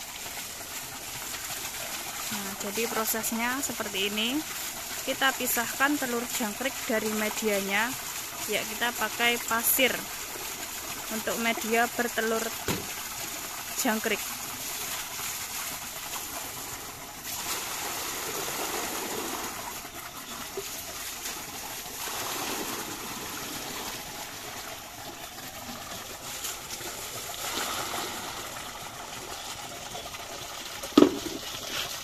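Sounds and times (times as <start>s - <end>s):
water pouring and splashing into sand: 0.0s - 32.0s.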